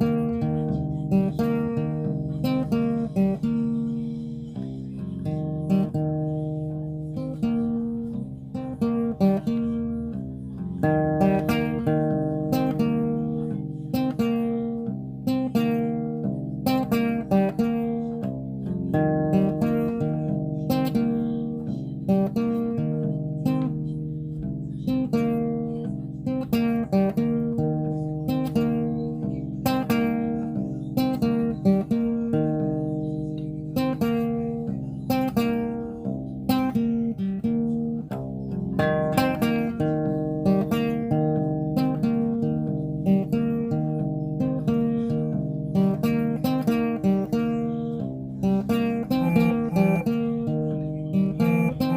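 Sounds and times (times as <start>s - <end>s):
acoustic guitar playing: 0.0s - 51.9s.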